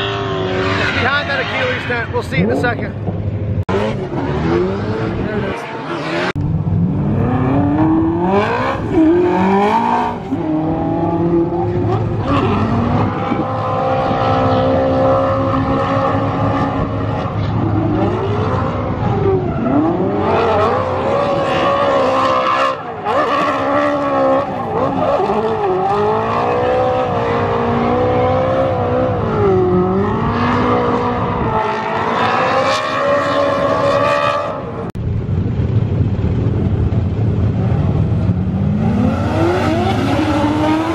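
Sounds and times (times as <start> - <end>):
car engine revving: 0.0 - 35.0, 37.0 - 40.9.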